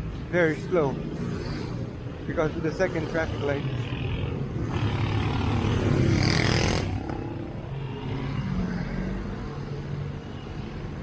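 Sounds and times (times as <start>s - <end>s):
vehicle engines in slow traffic: 0.0s - 11.0s.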